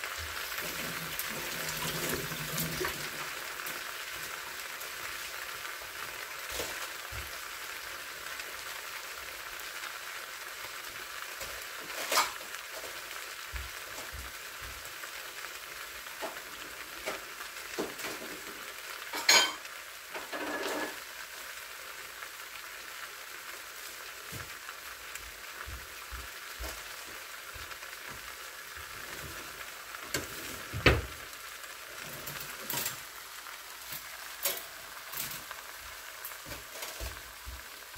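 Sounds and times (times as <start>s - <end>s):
food sizzling in a frying pan: 0.0s - 37.9s.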